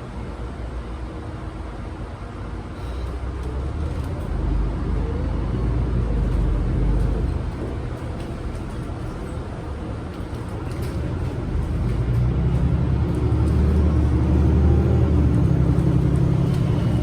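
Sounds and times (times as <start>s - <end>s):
bus engine and rolling noise: 0.0s - 17.0s.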